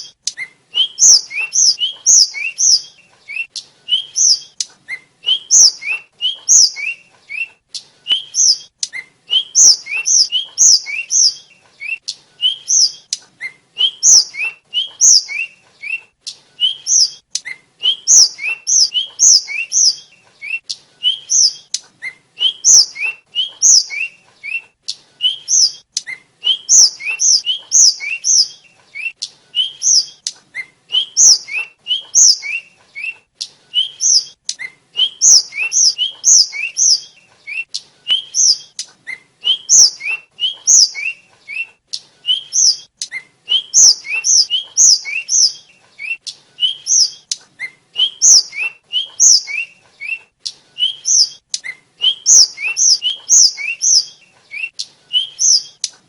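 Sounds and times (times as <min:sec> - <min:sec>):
flycatcher singing: 0:00.0 - 0:41.7, 0:42.3 - 0:50.2, 0:50.8 - 0:56.0.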